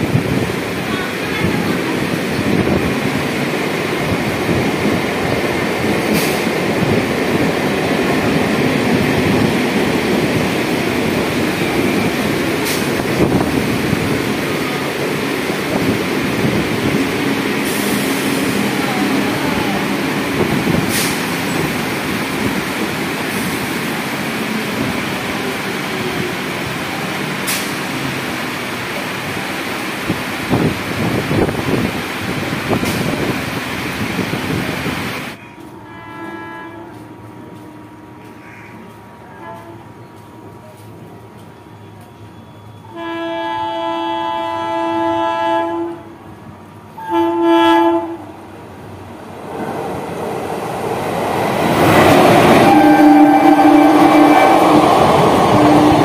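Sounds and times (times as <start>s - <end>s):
electric train rumbling hum: 0.0s - 56.0s.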